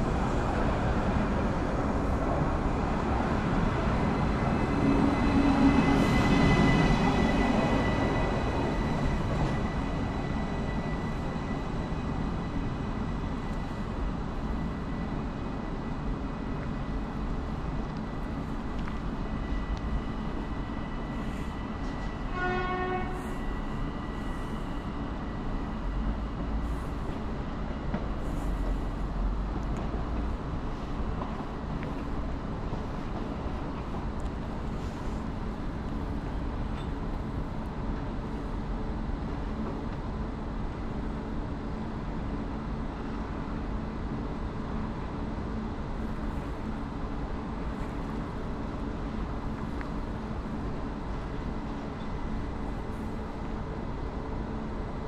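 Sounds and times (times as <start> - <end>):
electric train rumble with hiss: 0.0 - 55.0.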